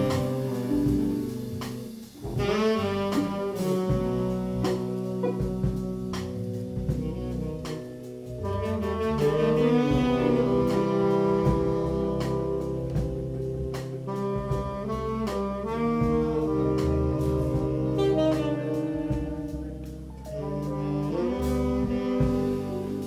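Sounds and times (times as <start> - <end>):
drum kit with cymbal hits: 0.0 - 23.0
saxophones playing chords: 0.0 - 23.0.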